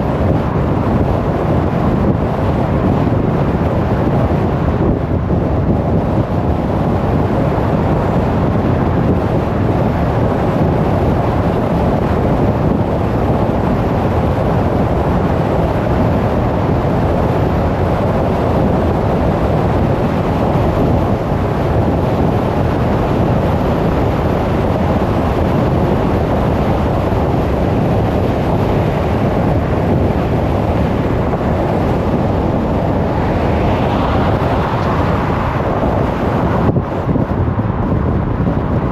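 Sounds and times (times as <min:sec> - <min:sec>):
car tyre road noise: 0:00.0 - 0:38.9
wind noise: 0:00.0 - 0:38.9.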